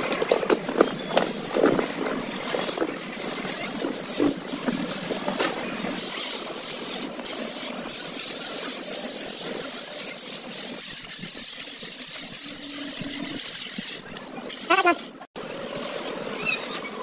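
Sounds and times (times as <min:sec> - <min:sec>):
float scraping on plaster: 0:00.0 - 0:15.3.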